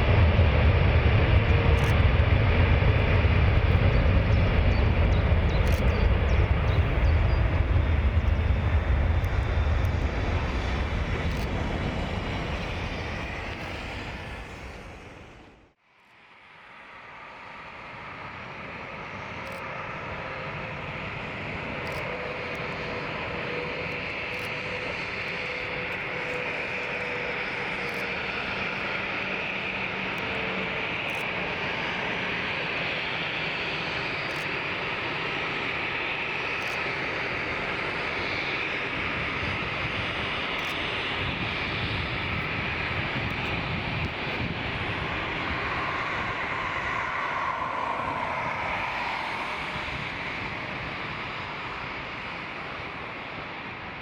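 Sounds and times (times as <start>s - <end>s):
jet engine rumble: 0.0s - 15.8s, 16.7s - 54.0s
faint jet whine: 0.0s - 54.0s.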